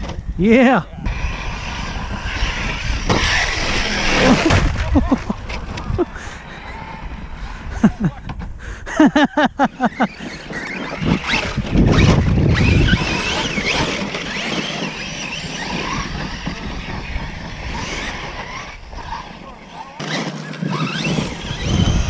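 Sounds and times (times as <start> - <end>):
tyre noise: 0.0 - 22.0
electric motors revving: 1.0 - 8.1, 9.6 - 22.0.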